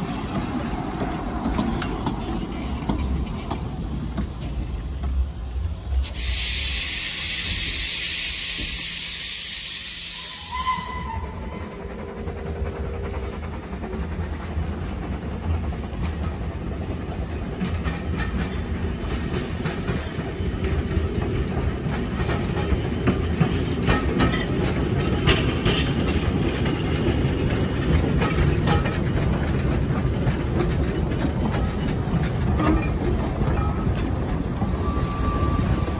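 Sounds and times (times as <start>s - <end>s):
steam locomotive passing: 0.0s - 35.9s.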